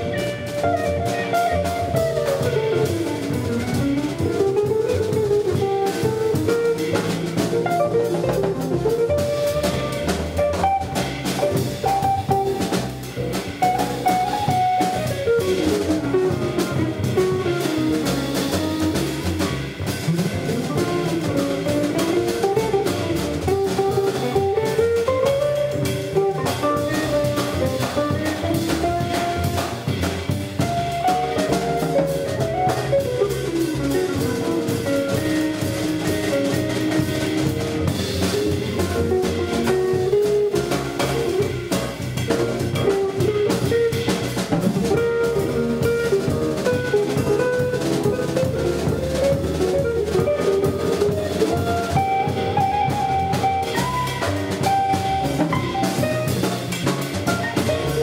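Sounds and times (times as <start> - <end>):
drum kit: 0.0 - 58.0
jazz guitar melody: 0.0 - 58.0
upright double bass: 0.0 - 58.0.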